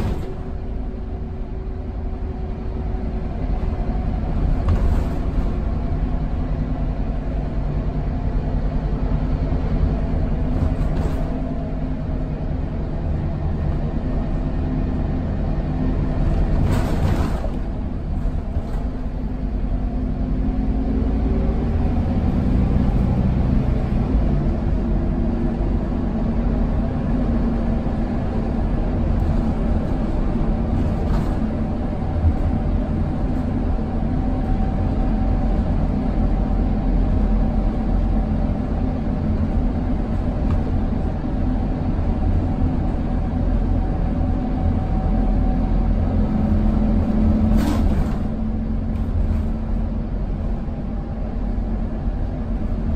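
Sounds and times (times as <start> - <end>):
bus diesel engine running: 0.0 - 52.9
road rumble: 0.0 - 52.9.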